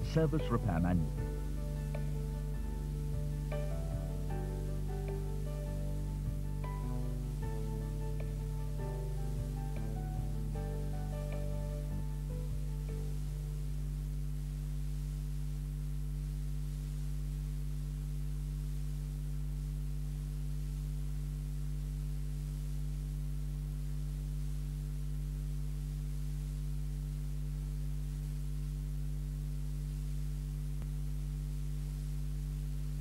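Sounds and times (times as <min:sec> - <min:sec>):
low electronic drone: 0:00.0 - 0:30.1.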